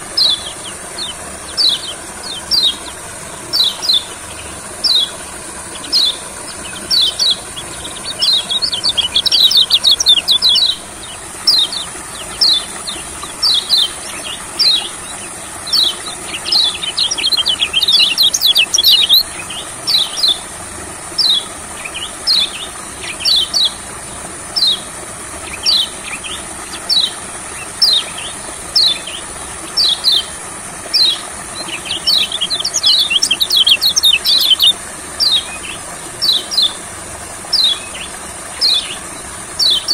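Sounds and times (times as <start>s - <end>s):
fast twittering birdsong: 0.0s - 39.9s.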